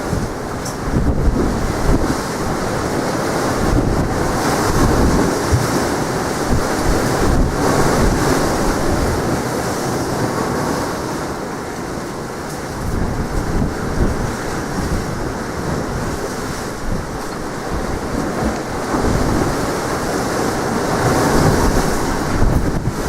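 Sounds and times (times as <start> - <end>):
wind buffeting microphone: 0.0 - 10.8, 12.0 - 23.0
sea surf: 0.0 - 23.0.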